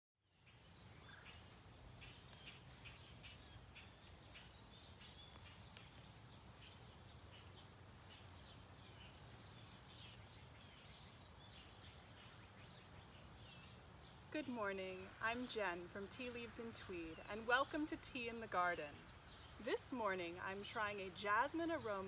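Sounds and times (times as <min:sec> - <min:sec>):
birds chirping: 0:00.2 - 0:22.0.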